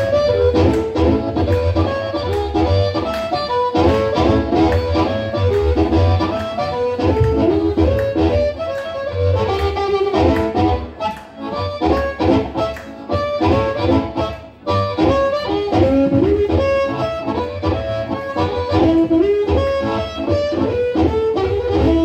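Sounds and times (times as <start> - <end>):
live blues band: 0.0 - 22.0.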